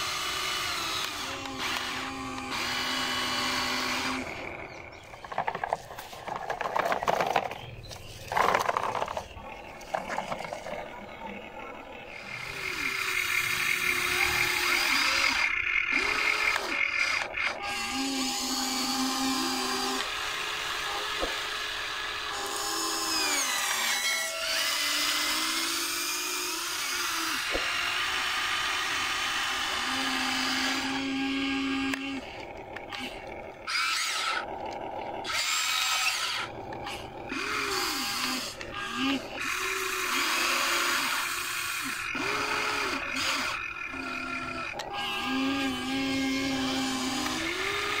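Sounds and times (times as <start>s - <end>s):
electric motors whining: 0.0s - 48.0s.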